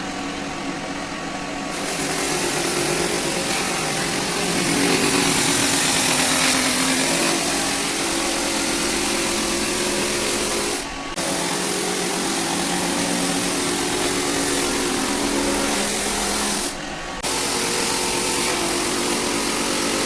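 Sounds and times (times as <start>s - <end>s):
floor sander running: 0.0s - 20.0s.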